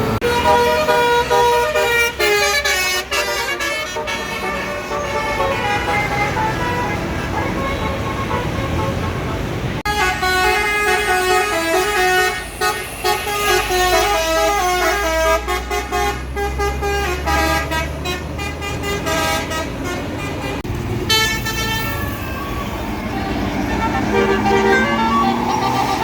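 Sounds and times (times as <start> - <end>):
bus horn playing a melody: 0.2 - 22.0, 23.0 - 26.0.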